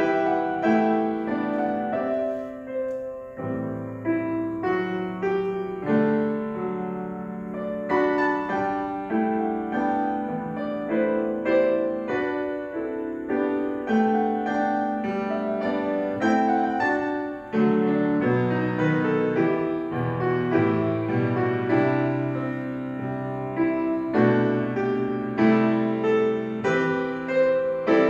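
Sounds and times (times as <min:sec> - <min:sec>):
slow piano chords: 0:00.0 - 0:28.0.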